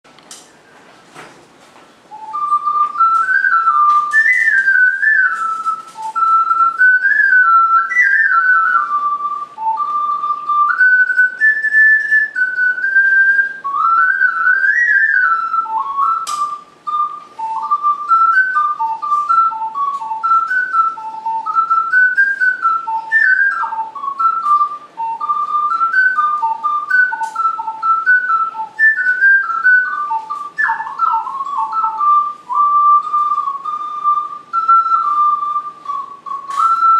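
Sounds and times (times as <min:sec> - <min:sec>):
ocarina melody: 0:01.9 - 0:36.9.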